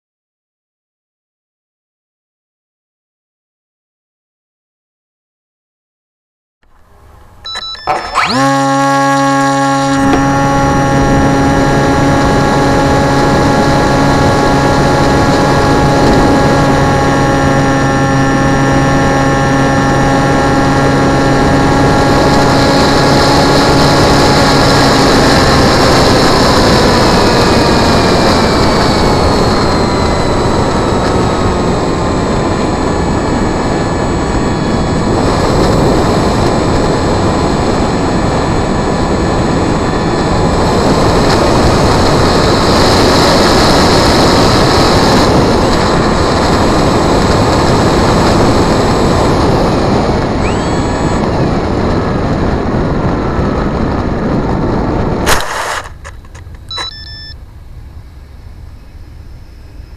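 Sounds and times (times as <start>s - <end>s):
electric motor and propeller whine: 6.6s - 59.9s.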